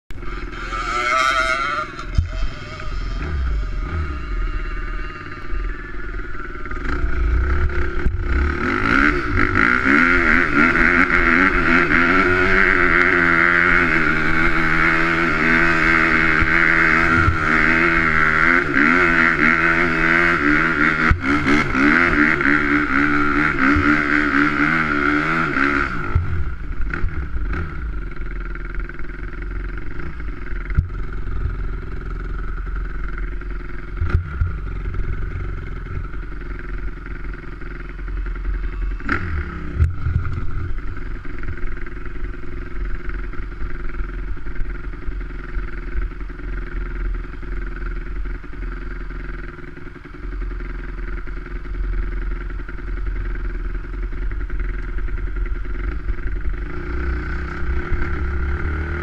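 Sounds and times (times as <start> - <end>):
motorcycle engine revving: 0.1 - 59.0.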